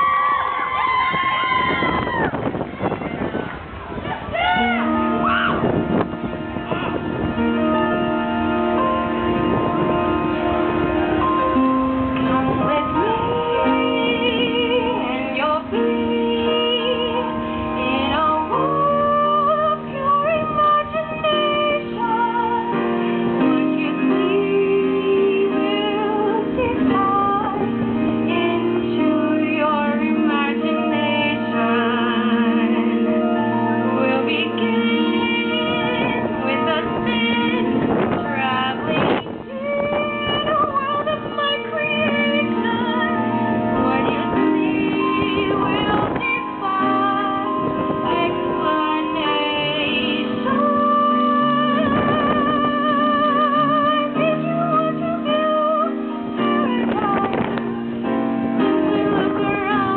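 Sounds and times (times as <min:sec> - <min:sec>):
instrumental accompaniment: 0:00.0 - 0:59.9
woman singing with vibrato: 0:11.2 - 0:59.9.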